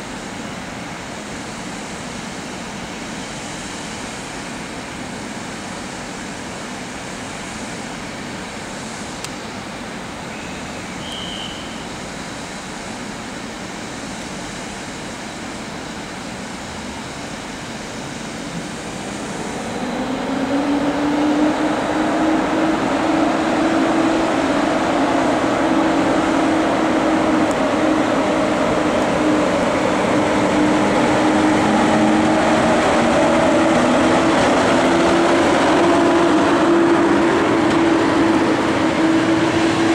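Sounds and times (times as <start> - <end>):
train rumble: 0.0 - 39.9
electric locomotive motor hum: 7.9 - 39.9.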